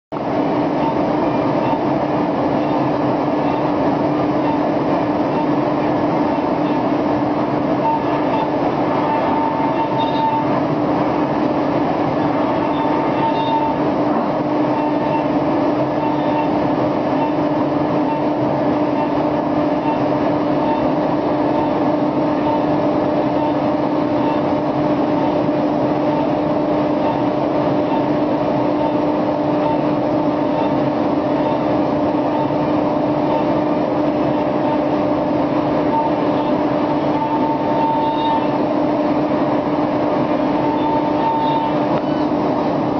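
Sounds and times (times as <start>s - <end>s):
milling machine whine: 0.1s - 42.9s
metal cutting noise: 0.2s - 42.9s.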